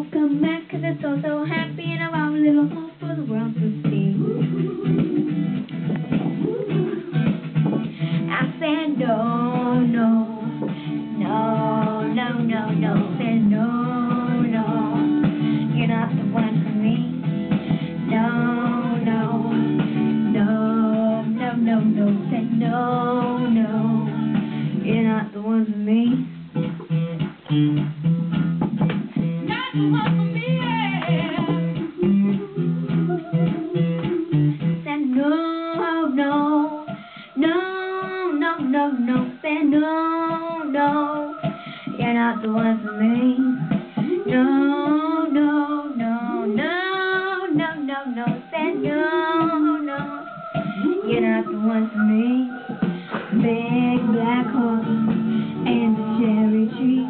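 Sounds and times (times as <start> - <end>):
girl singing: 0.0 - 26.7, 29.4 - 57.0
acoustic guitar music: 0.0 - 57.0.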